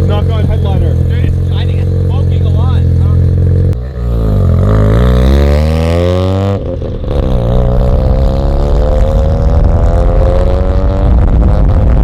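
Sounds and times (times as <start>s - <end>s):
rotary engine accelerating: 0.0s - 12.0s.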